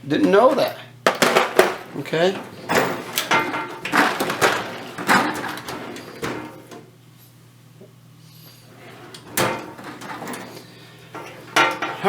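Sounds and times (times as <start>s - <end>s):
metal drawers sliding shut: 0.2s - 6.9s, 8.6s - 12.0s.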